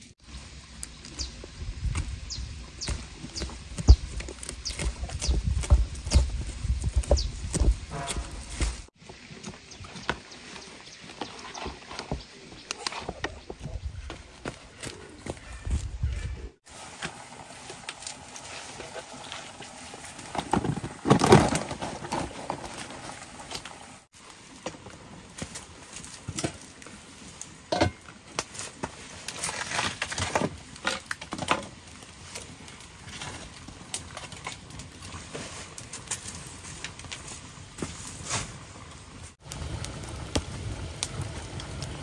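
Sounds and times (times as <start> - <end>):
wood fire crackling: 0.0 - 15.9, 16.6 - 42.0.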